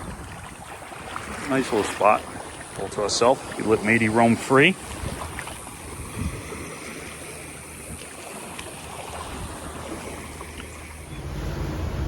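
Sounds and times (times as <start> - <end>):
small waves lapping on shore: 0.0 - 12.0.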